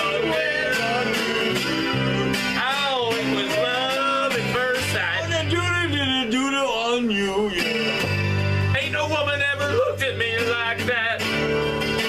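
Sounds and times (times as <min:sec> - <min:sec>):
man singing: 0:00.0 - 0:01.9, 0:02.5 - 0:08.1, 0:08.7 - 0:11.3
acoustic guitar playing: 0:00.0 - 0:12.0.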